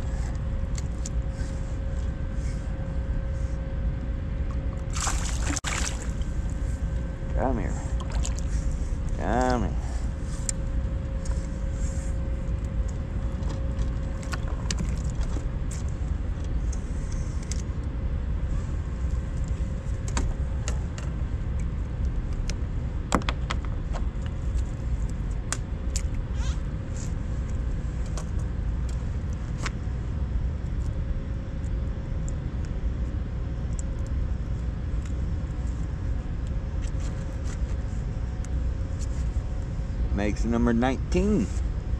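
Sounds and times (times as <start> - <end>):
steady low rumble: 0.0 - 41.9.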